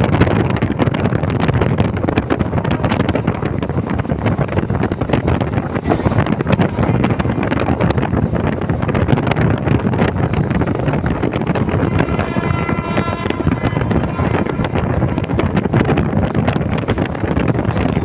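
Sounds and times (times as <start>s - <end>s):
train wheels rumbling and rattling: 0.0s - 18.0s
wind buffeting microphone: 0.0s - 18.0s.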